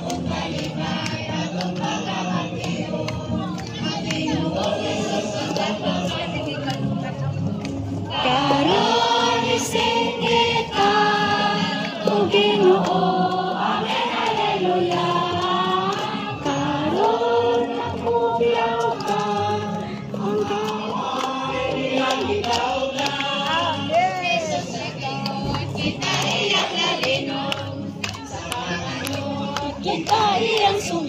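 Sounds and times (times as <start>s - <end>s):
choir singing worship song: 0.0s - 6.9s, 8.1s - 31.0s.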